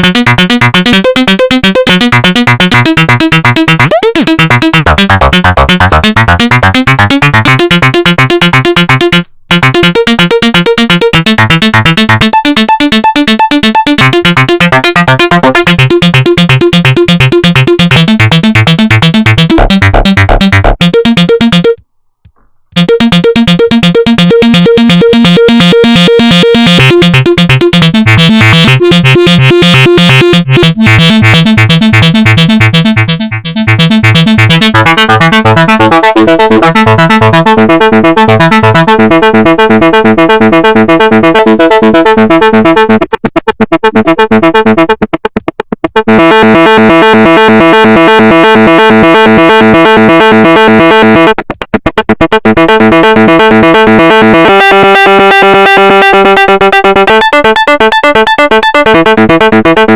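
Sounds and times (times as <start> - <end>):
fast arpeggiated synthesizer: 0.0 - 21.8, 22.7 - 59.9.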